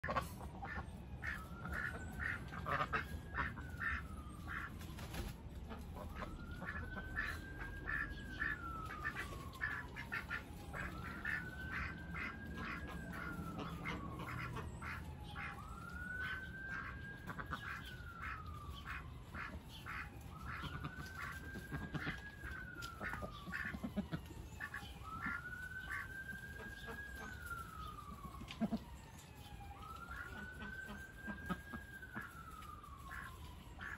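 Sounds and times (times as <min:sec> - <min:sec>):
ducks quacking: 0:00.0 - 0:27.2, 0:30.1 - 0:32.4, 0:33.0 - 0:33.9
siren wailing: 0:00.0 - 0:33.9.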